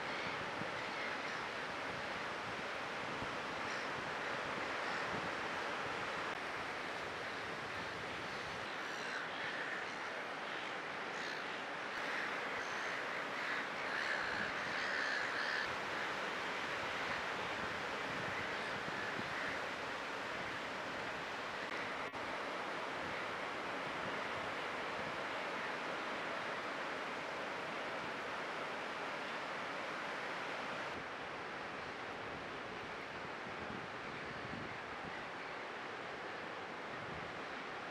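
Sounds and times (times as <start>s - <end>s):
wind: 0.0s - 37.9s.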